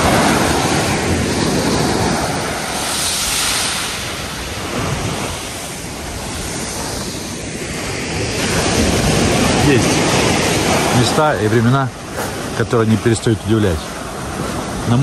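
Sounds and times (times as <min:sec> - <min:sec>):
small waves washing up beach: 0:00.0 - 0:15.0.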